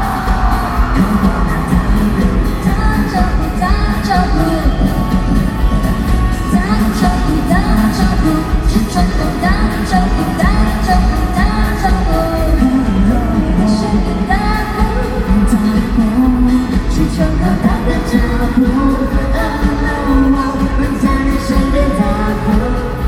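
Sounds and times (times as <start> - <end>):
heavy steady bass: 0.0 - 23.0
live pop band playing: 0.0 - 23.0
person singing: 0.0 - 23.0.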